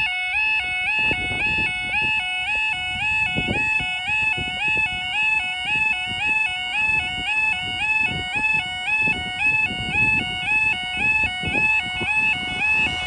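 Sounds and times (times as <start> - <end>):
two-tone warning alarm: 0.0 - 13.0.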